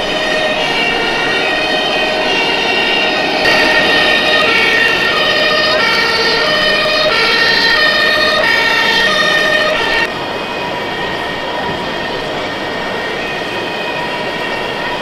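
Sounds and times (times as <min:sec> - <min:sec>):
fire engine siren: 0:00.0 - 0:12.2.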